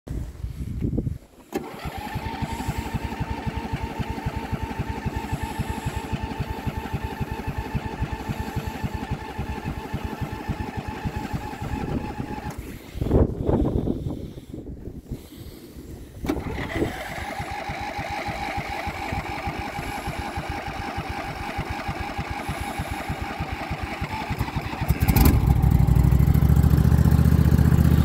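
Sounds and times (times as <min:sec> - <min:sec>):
engine firing: 0:01.5 - 0:12.7, 0:16.2 - 0:28.0
electric starter cranking engine: 0:01.5 - 0:12.8, 0:16.2 - 0:28.0.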